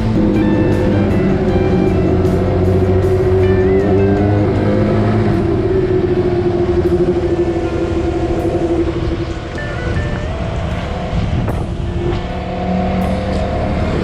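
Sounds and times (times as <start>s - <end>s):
background music: 0.0s - 14.0s
motorcycle engine running: 0.0s - 14.0s.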